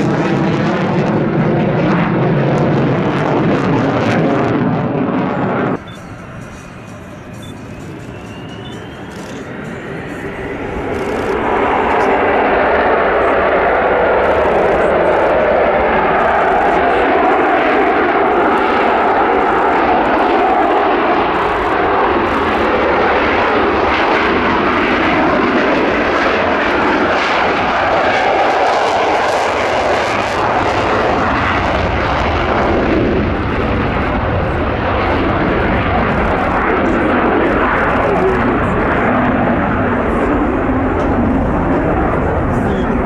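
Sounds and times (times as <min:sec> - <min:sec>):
jet roar taking off: 0:00.0 - 0:43.0.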